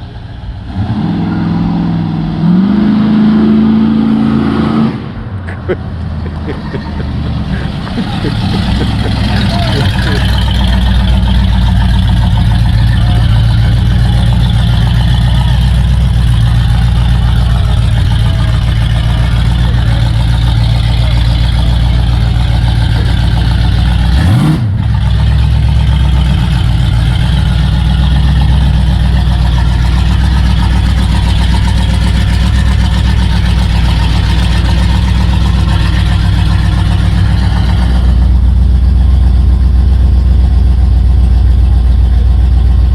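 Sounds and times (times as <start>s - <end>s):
car engine drone: 0.0s - 42.9s
road noise: 0.0s - 42.9s.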